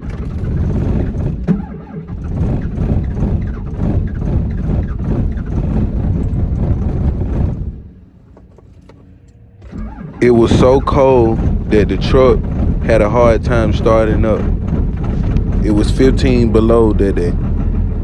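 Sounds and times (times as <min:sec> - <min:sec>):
truck engine cranking: 0:00.0 - 0:18.0.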